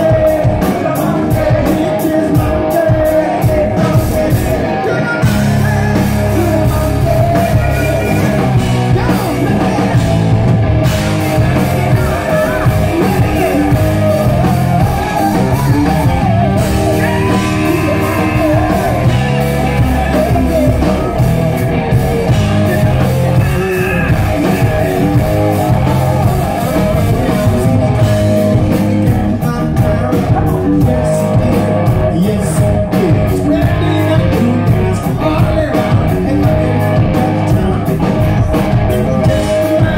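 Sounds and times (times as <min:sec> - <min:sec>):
lead vocalist singing: 0:00.0 - 0:39.9
live rock band playing: 0:00.0 - 0:39.9.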